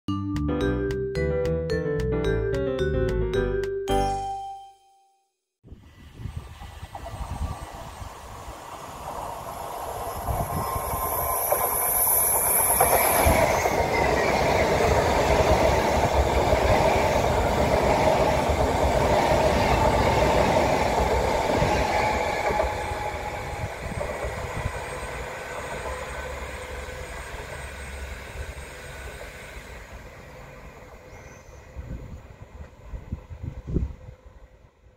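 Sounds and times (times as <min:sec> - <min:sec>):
electric train passing: 0:05.8 - 0:34.9.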